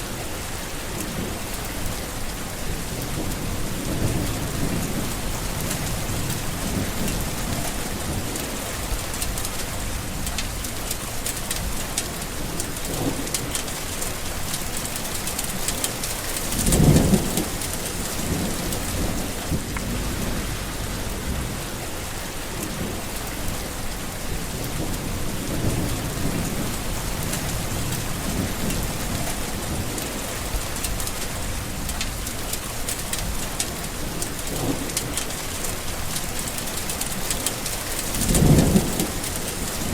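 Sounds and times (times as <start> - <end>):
heavy rain: 0.0 - 39.9
thunder rumbling: 0.9 - 32.6, 33.2 - 39.9.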